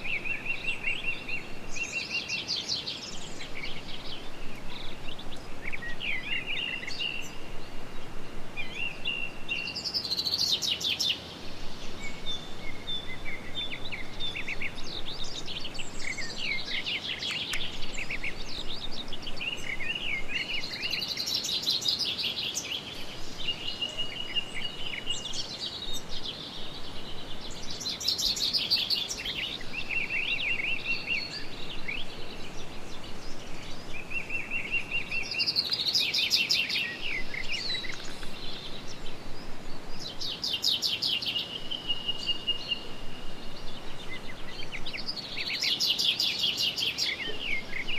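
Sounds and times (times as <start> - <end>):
songbirds singing: 0.0 - 47.9
steady background hiss: 0.0 - 47.9.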